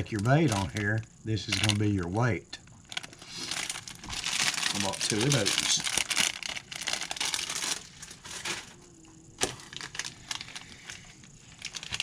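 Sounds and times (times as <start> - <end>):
plastic packaging crinkling: 0.0 - 1.8, 2.8 - 8.8, 9.4 - 12.0.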